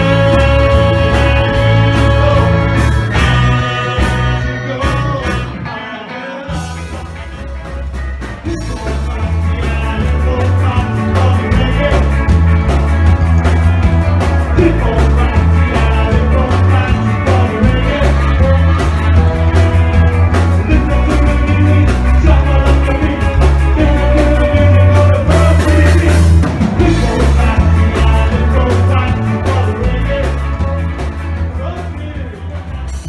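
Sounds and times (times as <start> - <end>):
drum beat: 0.0 - 4.2, 6.6 - 33.0
heavy bass line: 0.0 - 33.0
live ska band playing: 0.0 - 33.0.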